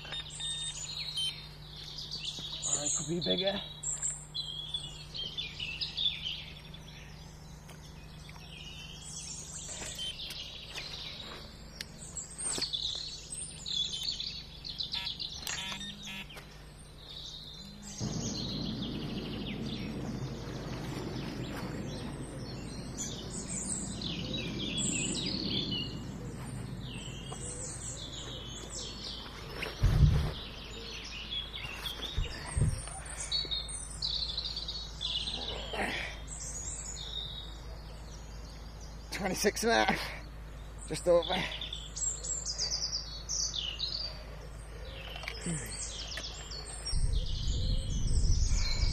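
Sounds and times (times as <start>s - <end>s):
birds singing and chirping: 0.0s - 48.9s.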